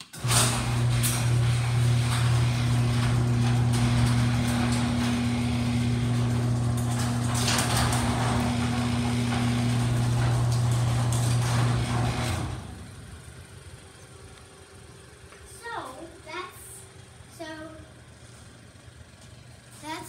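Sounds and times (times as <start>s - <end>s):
garage door opener motor humming: 0.0s - 19.8s.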